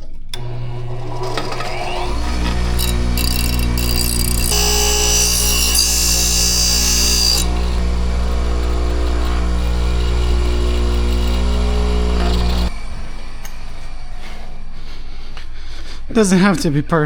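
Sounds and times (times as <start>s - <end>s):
lathe motor hum: 0.4s - 14.1s
high-pitched metal cutting: 0.4s - 14.2s.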